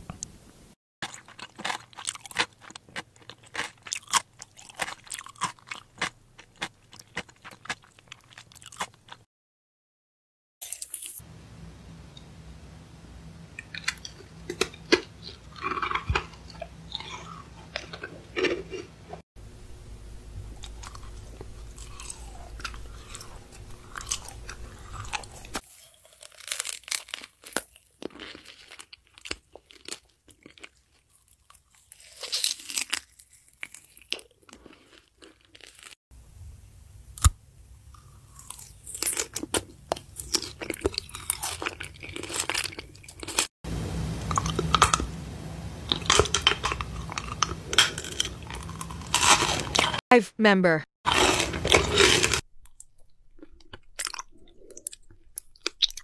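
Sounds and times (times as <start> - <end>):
person chewing crunchy food: 1.0 - 9.3, 10.6 - 11.2, 13.6 - 19.2, 20.5 - 36.0, 37.2 - 43.5, 44.2 - 45.1, 45.9 - 50.0, 51.1 - 56.0.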